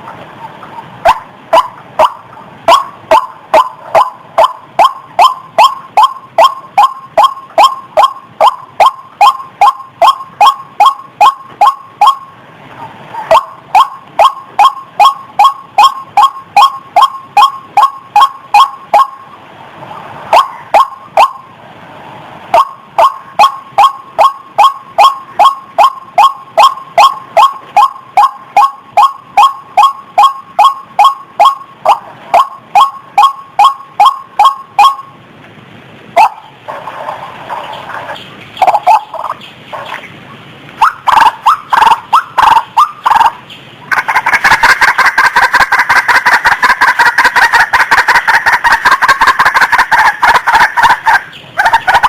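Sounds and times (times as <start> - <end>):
waterhen calling: 0.0 - 19.4, 20.0 - 21.5, 22.5 - 35.2, 36.1 - 52.0.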